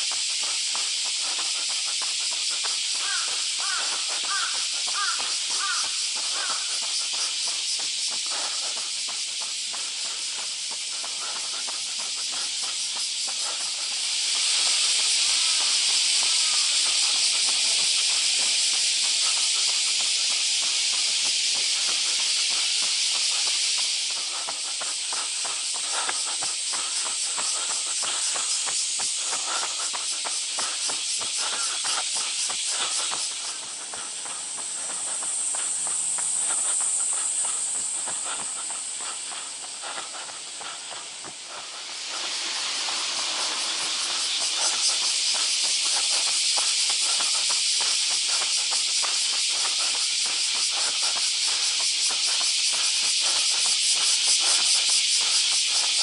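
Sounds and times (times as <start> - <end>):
cicadas buzzing: 0.0 - 56.0
footfalls of runner on pavement: 0.0 - 56.0.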